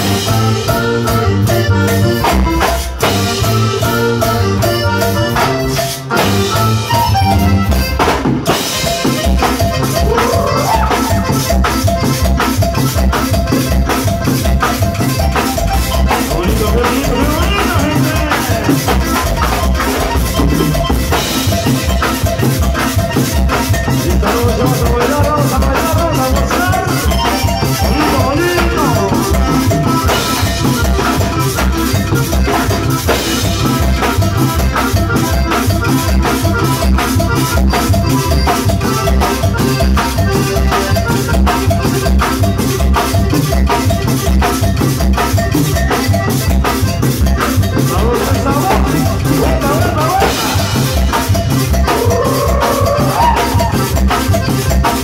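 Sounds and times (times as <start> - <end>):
live cumbia band playing: 0.0 - 55.0.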